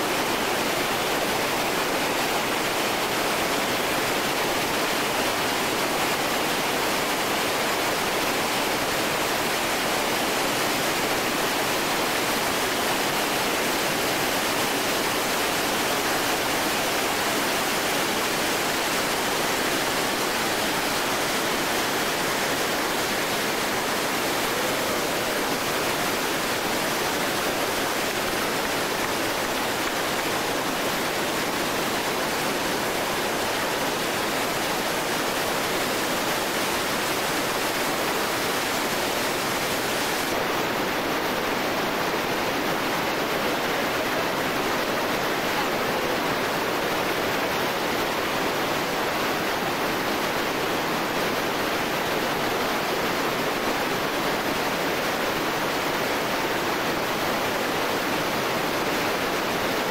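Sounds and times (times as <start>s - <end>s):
whitewater rapids roaring: 0.0s - 59.9s.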